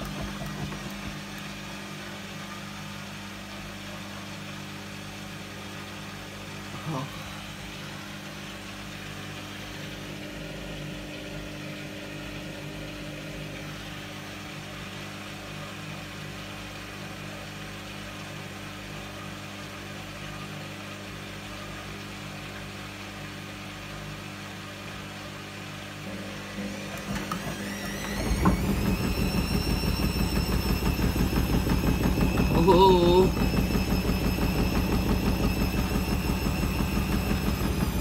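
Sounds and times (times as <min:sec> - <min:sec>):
washing machine drum humming: 0:00.0 - 0:18.2, 0:23.2 - 0:38.0.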